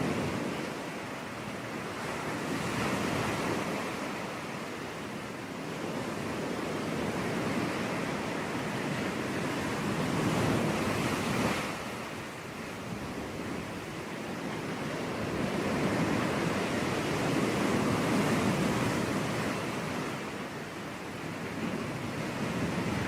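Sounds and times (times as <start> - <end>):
sea waves breaking on beach: 0.0 - 23.0.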